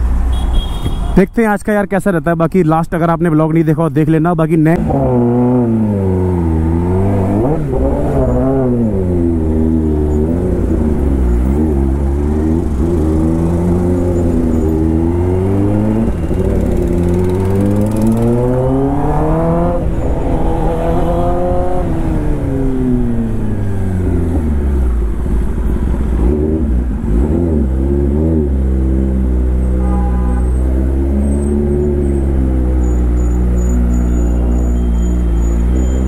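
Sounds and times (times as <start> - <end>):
motorcycle engine revving: 4.7 - 36.0.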